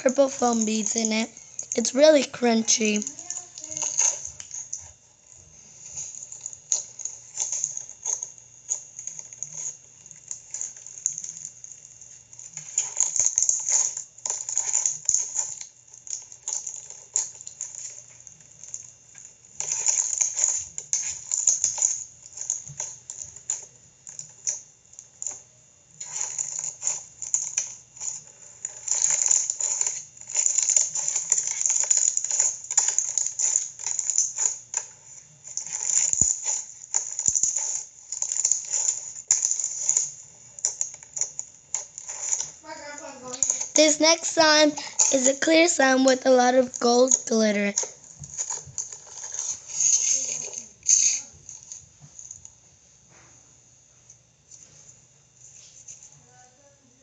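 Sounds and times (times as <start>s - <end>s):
slime crunching and crackling: 0.0s - 24.6s, 26.0s - 51.8s.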